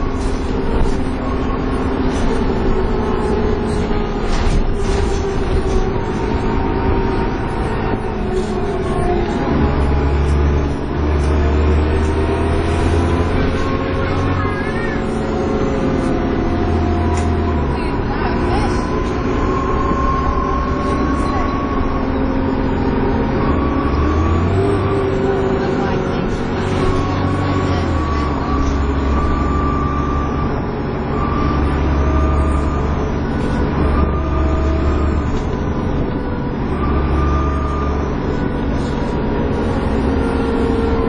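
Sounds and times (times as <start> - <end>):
bus engine droning: 0.0 - 41.0.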